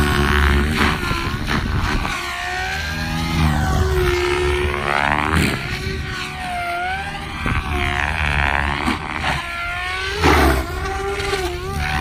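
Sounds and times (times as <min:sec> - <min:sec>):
rc helicopter motor whine: 0:00.0 - 0:12.0
rotor blade noise: 0:00.0 - 0:12.0.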